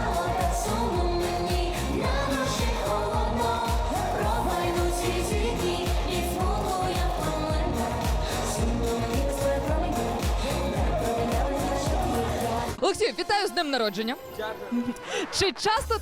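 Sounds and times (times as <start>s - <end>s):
pop music with sung vocals: 0.0s - 16.0s.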